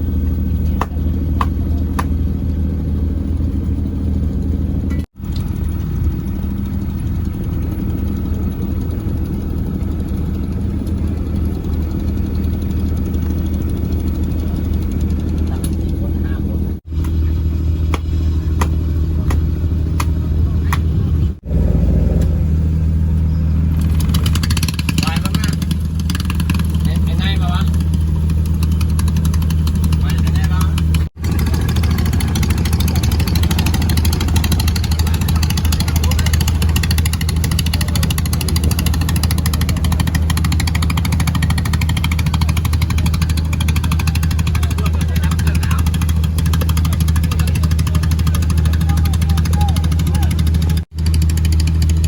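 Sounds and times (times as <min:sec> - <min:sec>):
engine running with low drone: 0:00.0 - 0:52.0.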